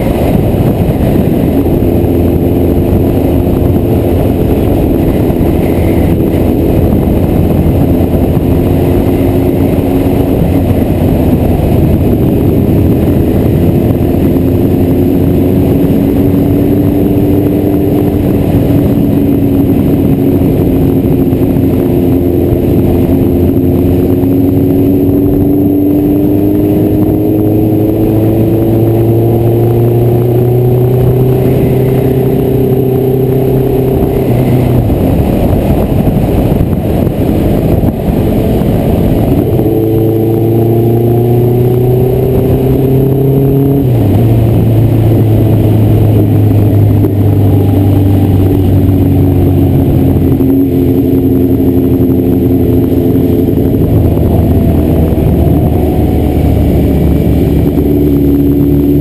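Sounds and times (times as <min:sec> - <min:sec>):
motorcycle engine revving: 0:00.0 - 0:59.0
wind noise: 0:00.0 - 0:59.0.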